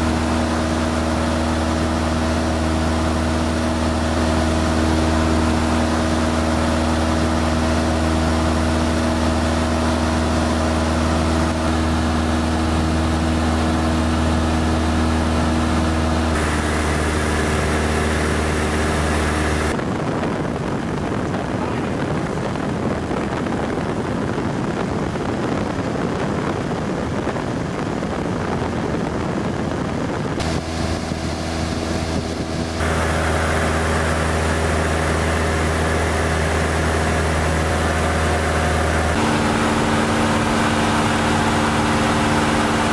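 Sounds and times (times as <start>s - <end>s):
airplane engine and propeller droning: 0.0s - 42.9s.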